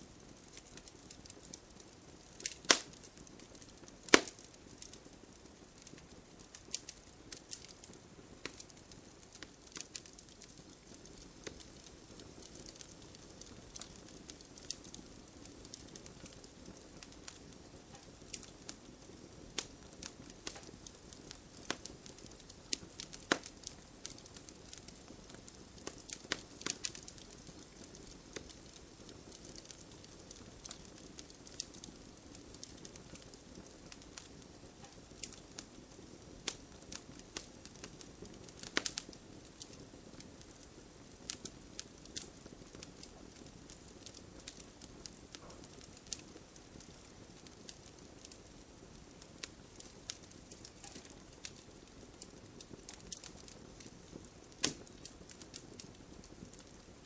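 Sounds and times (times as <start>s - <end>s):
soft patter of rain: 0.0s - 57.0s
wood fire crackling: 0.0s - 57.0s.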